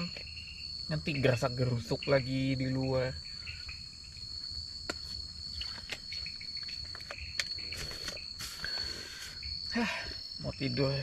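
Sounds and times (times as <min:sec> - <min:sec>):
night insects droning: 0:00.0 - 0:11.0.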